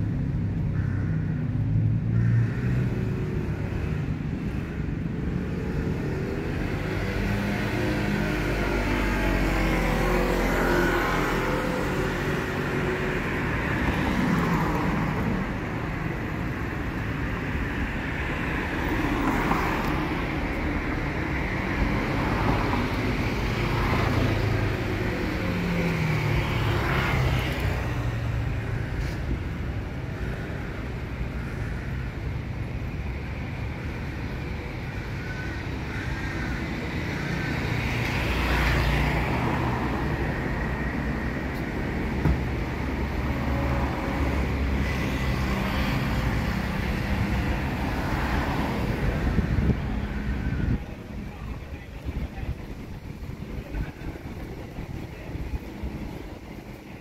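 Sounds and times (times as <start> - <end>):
low traffic rumble: 0.0 - 57.0
vehicles passing close by: 0.0 - 57.0.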